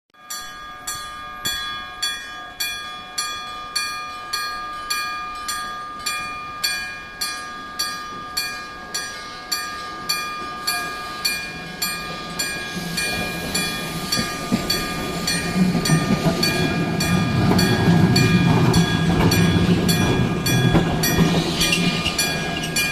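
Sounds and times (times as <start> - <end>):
electric warning bell striking: 0.2 - 22.9.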